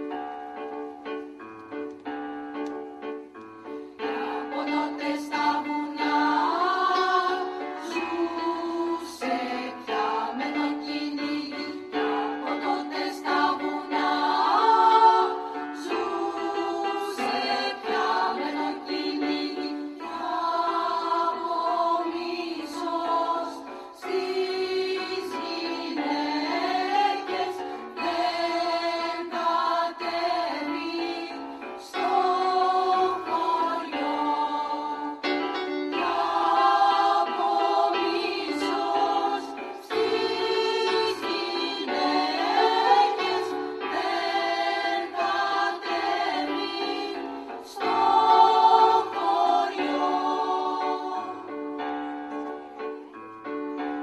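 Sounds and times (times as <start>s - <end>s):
choir singing: 3.9s - 52.4s.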